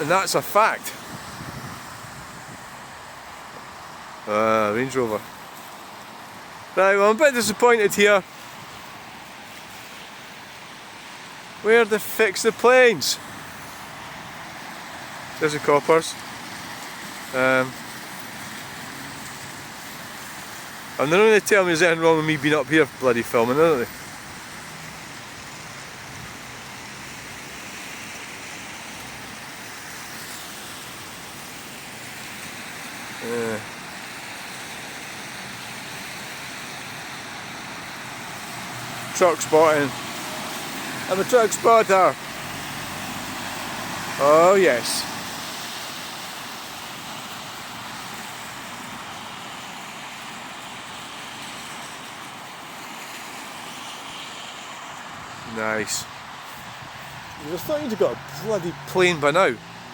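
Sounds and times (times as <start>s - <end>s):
road traffic hiss: 0.0s - 59.9s.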